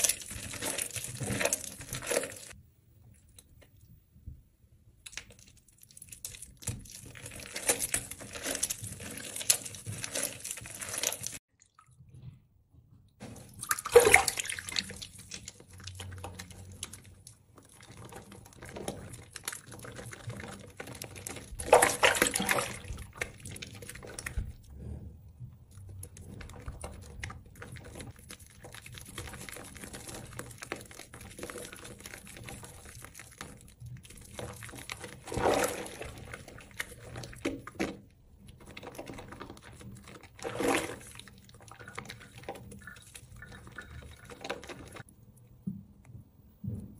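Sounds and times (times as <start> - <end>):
wet soap squishing: 0.0 - 12.3, 13.2 - 46.2.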